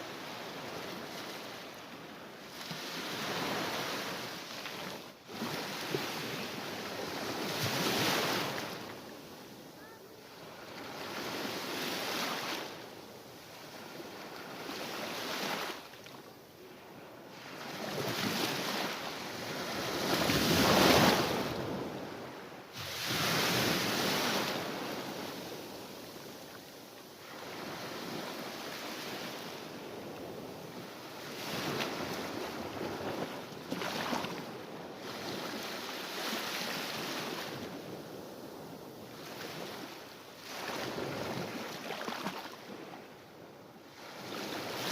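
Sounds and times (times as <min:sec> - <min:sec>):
waves breaking on shore: 0:00.0 - 0:43.2, 0:43.8 - 0:44.9.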